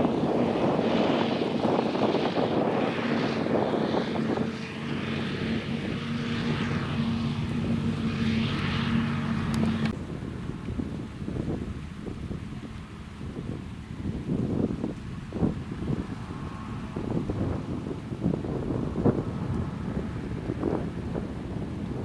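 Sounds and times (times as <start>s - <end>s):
forage harvester machine hum: 0.0s - 22.0s
wind on microphone: 0.0s - 22.0s.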